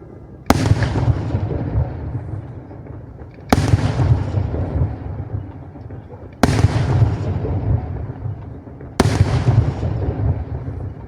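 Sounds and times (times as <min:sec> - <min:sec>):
firework shells bursting: 0:00.5 - 0:11.0.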